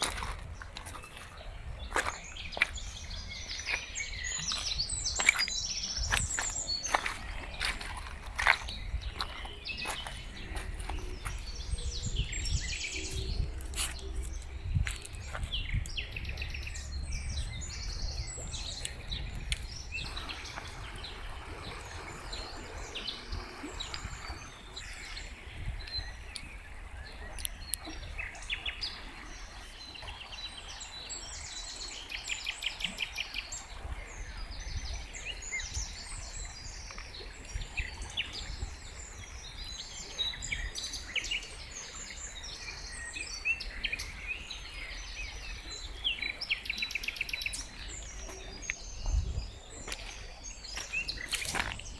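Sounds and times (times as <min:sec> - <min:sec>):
songbirds singing and calling: 0:00.0 - 0:51.9.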